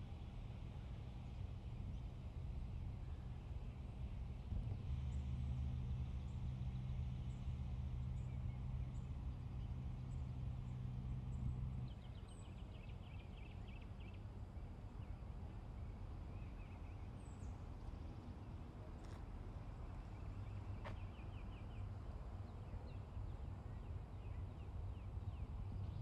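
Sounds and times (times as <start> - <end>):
low steady motor hum: 0.0 - 26.0.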